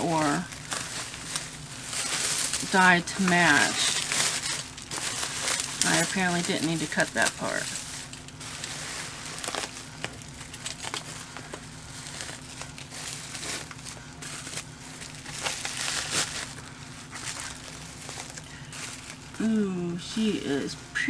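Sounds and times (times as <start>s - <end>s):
bubble wrap crinkling and crackling: 0.0s - 21.0s
steady low hum: 0.0s - 21.0s.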